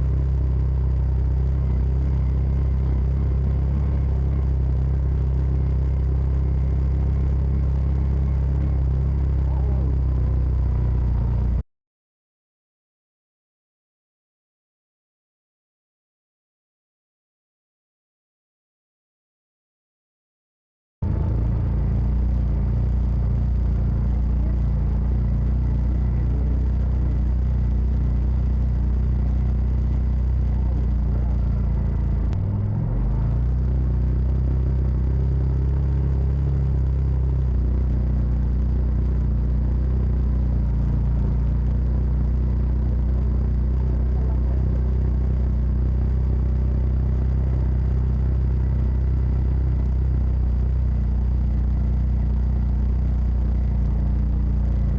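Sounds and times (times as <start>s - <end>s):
utility vehicle engine rumble: 0.0s - 11.6s, 21.0s - 54.9s.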